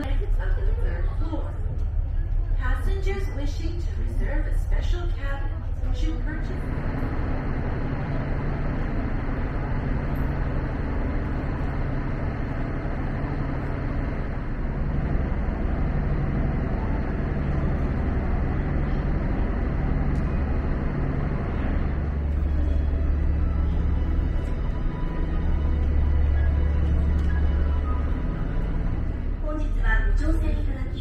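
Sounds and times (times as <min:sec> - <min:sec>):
boat engine drone: 0:00.0 - 0:31.0.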